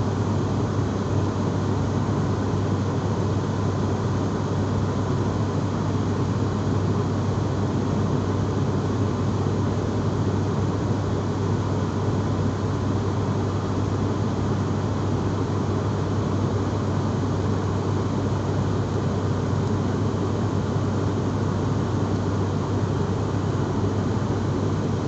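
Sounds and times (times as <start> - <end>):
airliner engines droning: 0.0 - 25.0.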